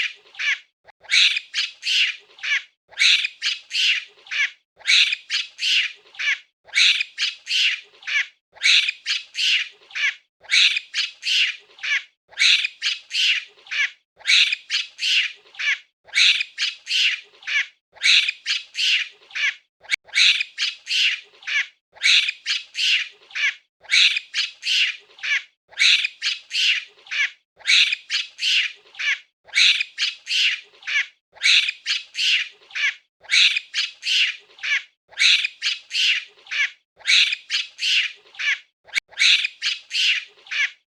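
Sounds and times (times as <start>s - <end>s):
monkey screeching: 0.0s - 40.8s.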